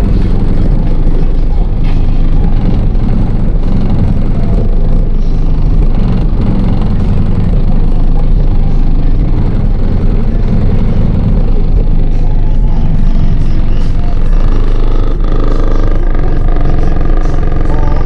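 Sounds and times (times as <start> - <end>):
car subwoofers playing bass-heavy music: 0.0 - 18.0.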